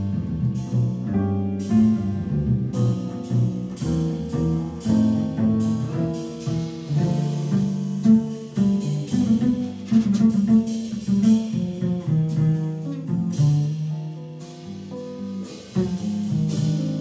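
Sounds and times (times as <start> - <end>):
drums: 0.0 - 17.0
pizzicato upright bass: 0.0 - 17.0.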